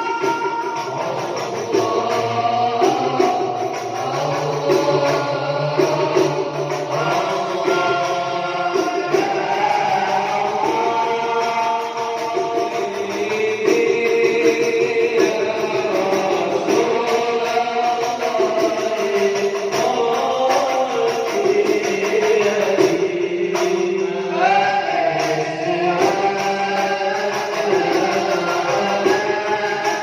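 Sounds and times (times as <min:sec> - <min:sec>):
frame drum and tambourine: 0:00.0 - 0:30.0
voices singing devotional melody: 0:00.0 - 0:30.0.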